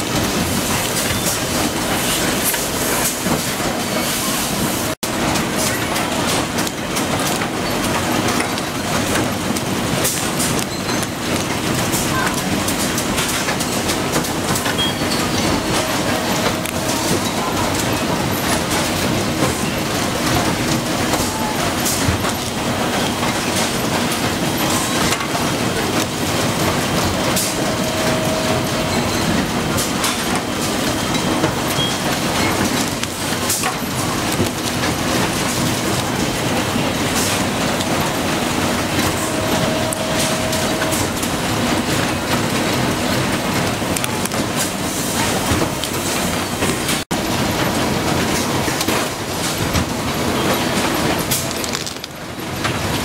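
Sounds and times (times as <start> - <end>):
production line machinery clattering: 0.0 - 53.0.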